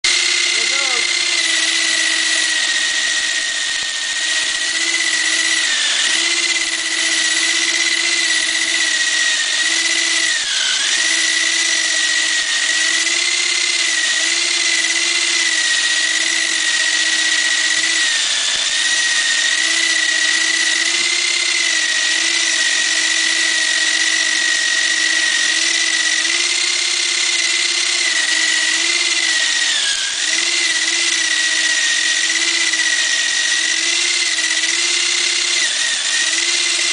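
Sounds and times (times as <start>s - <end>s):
electric drill motor whining: 0.0s - 36.9s.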